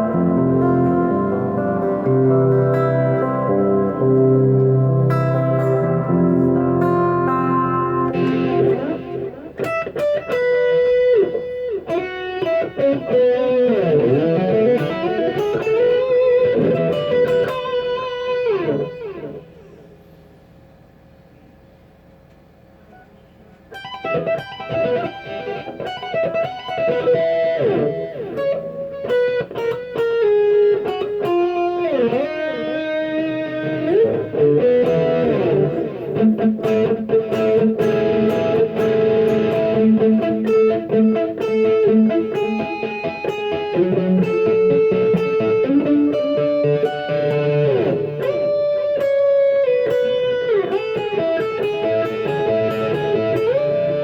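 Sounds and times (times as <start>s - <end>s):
electric guitar lead: 0.0s - 20.2s, 22.9s - 54.0s.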